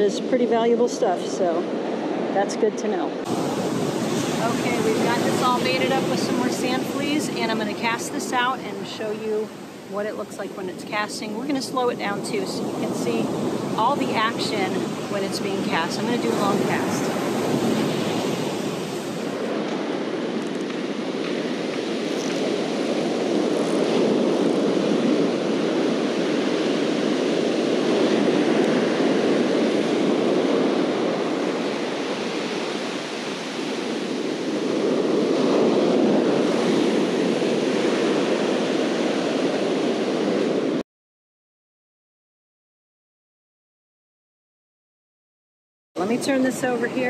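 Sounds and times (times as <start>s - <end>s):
ocean surf breaking: 0.0s - 40.8s.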